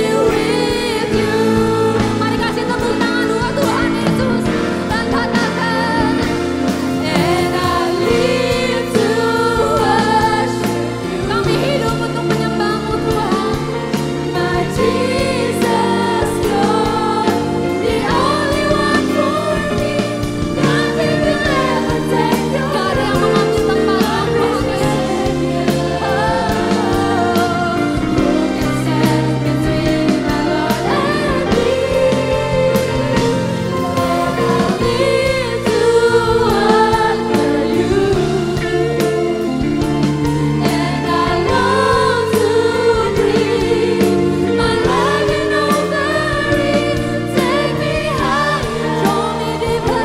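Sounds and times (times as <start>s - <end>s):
band with bass and drums: 0.0s - 50.0s
instrumental accompaniment with beat: 0.0s - 50.0s
women singing together: 0.0s - 50.0s.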